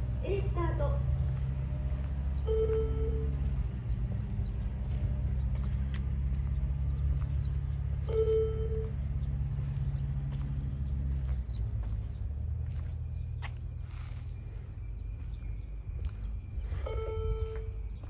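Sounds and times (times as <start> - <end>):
engine rumbling: 0.0 - 18.0.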